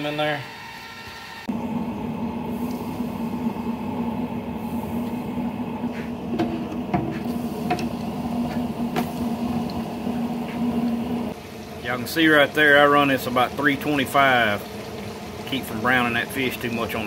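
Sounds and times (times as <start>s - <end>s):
ice cream maker motor humming: 0.0s - 17.0s.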